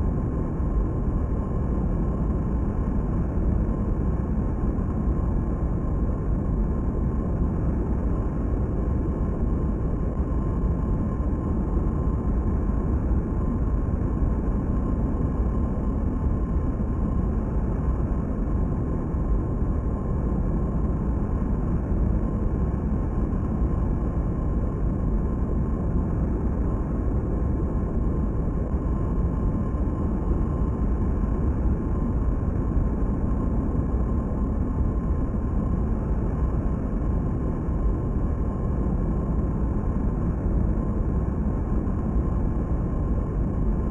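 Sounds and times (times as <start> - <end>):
faint constant whine: 0.0 - 43.9.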